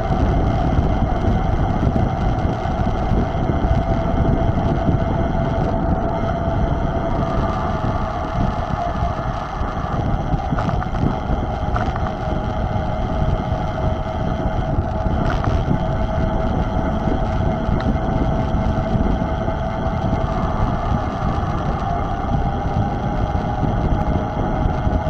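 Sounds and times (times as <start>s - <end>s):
steady high whine: 0.0s - 25.0s
wind buffeting microphone: 0.0s - 25.0s.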